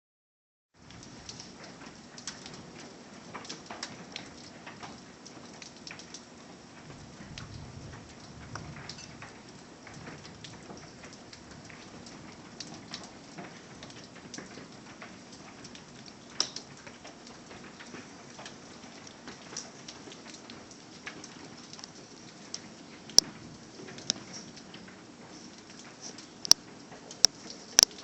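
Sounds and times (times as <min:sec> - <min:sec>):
rain hissing: 0:00.8 - 0:28.0.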